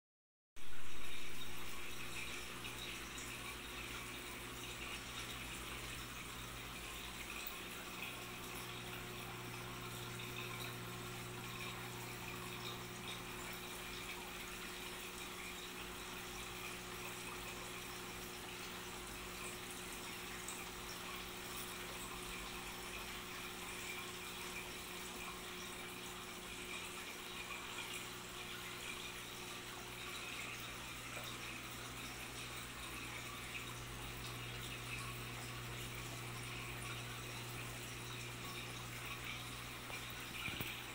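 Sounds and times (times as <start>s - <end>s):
low steady hum: 0.6s - 40.9s
running water: 0.6s - 40.9s.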